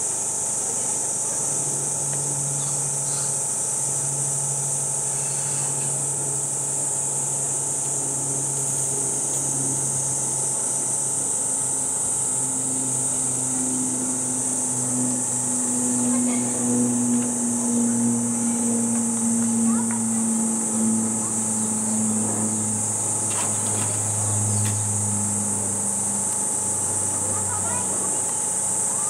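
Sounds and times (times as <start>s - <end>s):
cicadas chorus: 0.0s - 29.0s
low mechanical hum: 0.0s - 29.0s.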